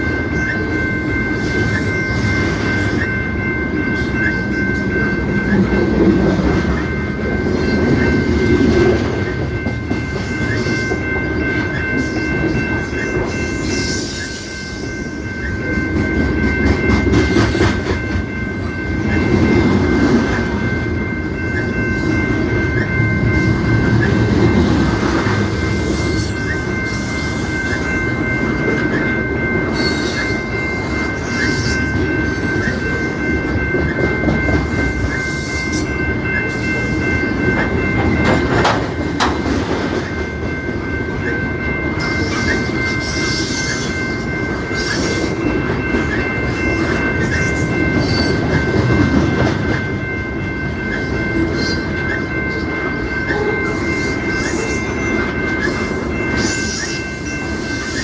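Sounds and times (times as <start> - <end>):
thin steady high tone: 0.0 - 6.0, 6.7 - 39.3, 40.1 - 58.0
train cars rumbling on rails: 0.0 - 58.0
wheels clickety-clack: 0.0 - 58.0.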